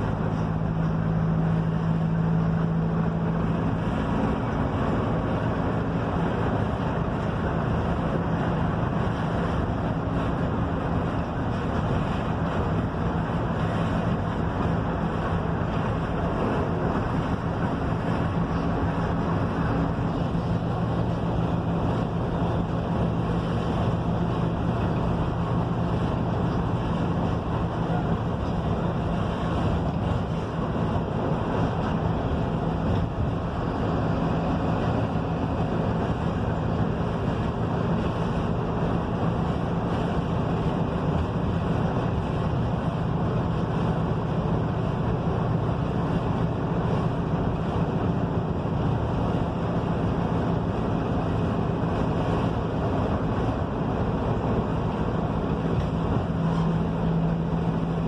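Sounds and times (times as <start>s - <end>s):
bus diesel engine running: 0.0s - 58.0s
road and wind noise: 0.0s - 58.0s.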